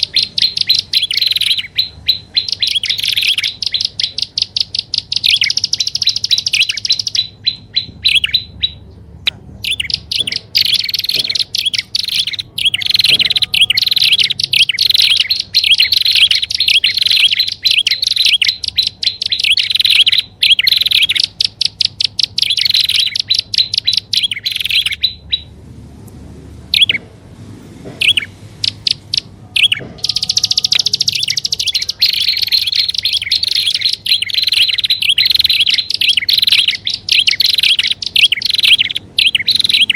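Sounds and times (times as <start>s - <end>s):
bird rapid high chirps: 0.0s - 25.6s, 26.7s - 27.0s, 28.0s - 39.9s.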